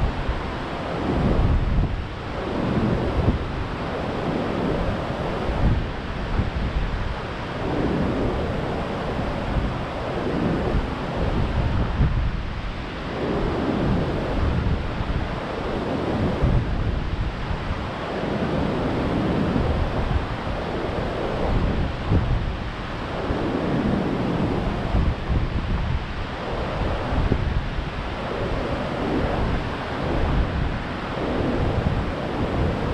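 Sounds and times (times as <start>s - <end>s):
wind blowing across microphone: 0.0s - 32.9s.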